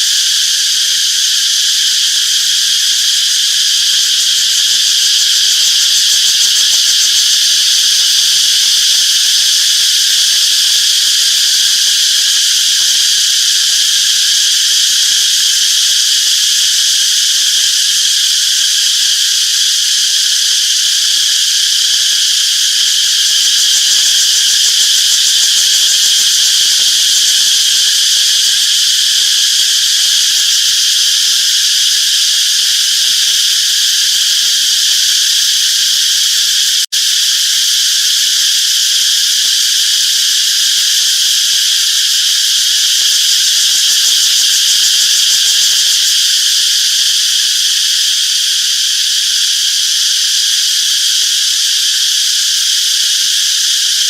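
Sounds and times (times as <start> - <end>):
cicadas shrilling: 0.0 - 54.0.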